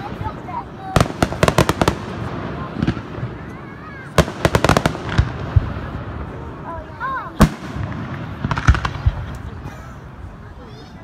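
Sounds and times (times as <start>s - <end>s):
fireworks bangs: 0.0s - 10.4s.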